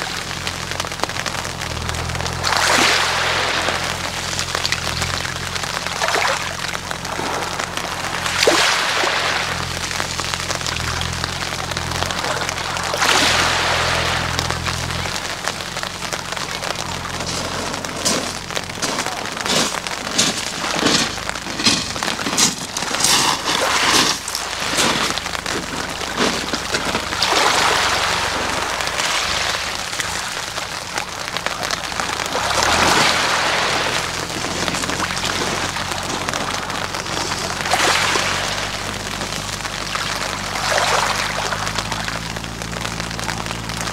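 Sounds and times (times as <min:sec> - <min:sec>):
pebbles rattling: 0:00.0 - 0:43.9
small waves washing on beach: 0:00.0 - 0:43.9.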